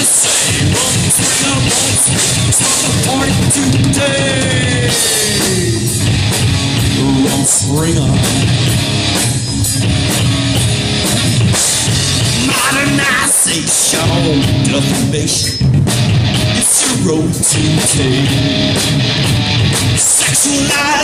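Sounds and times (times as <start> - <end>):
drum kit: 0.0 - 21.0
electric guitars: 0.0 - 21.0.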